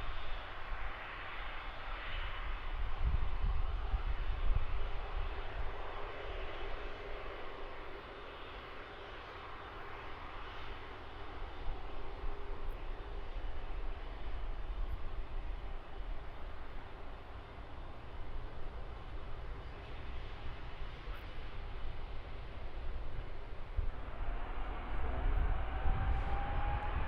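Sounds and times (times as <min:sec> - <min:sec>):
jet engines running: 0:00.0 - 0:27.0
wind rumble on microphone: 0:00.0 - 0:27.0.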